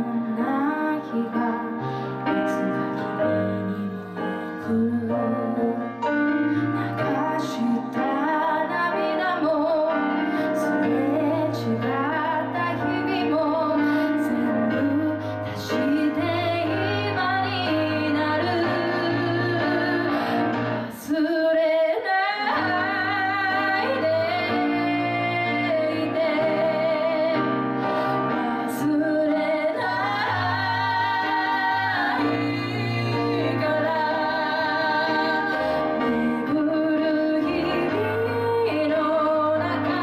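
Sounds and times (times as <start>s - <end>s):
woman singing: 0.0s - 6.2s, 6.9s - 27.6s, 28.3s - 40.0s
piano accompaniment: 0.0s - 40.0s.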